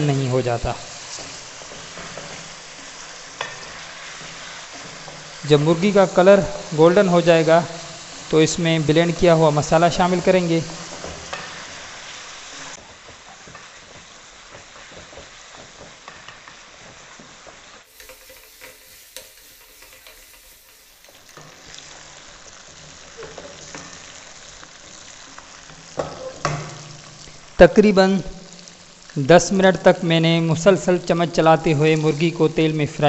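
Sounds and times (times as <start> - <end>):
chicken sizzling in hot oil: 0.0 - 33.0.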